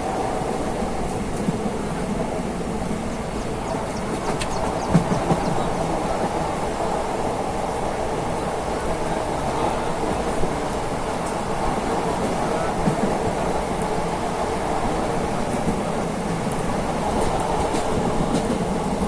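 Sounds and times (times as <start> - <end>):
moving train rumble and rattle: 0.0 - 19.0.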